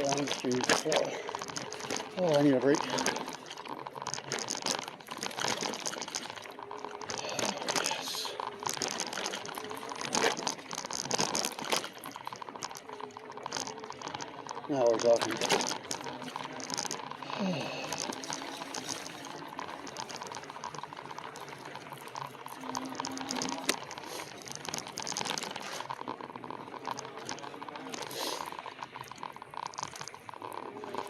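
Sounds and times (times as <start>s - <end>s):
irregular rattling ticks: 0.0s - 31.0s
tyres crackling over trail: 0.0s - 31.0s.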